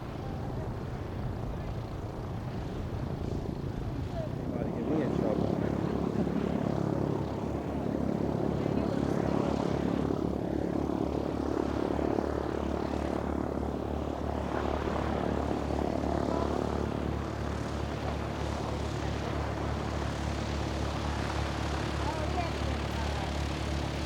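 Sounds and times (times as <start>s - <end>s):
light aircraft engine and propeller: 0.0s - 24.0s.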